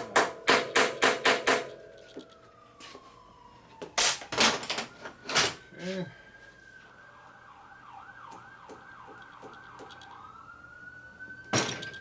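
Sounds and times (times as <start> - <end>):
emergency vehicle siren: 1.7 - 12.0.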